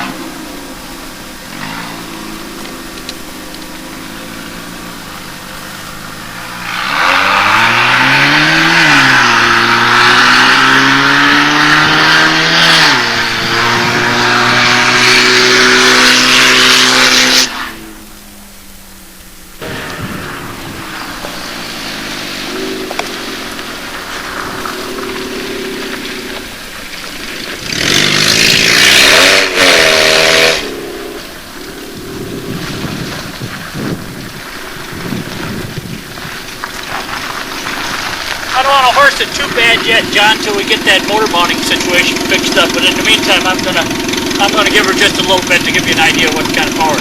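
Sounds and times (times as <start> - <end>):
car engine running: 0.0 - 47.0
rushing noise: 0.0 - 47.0.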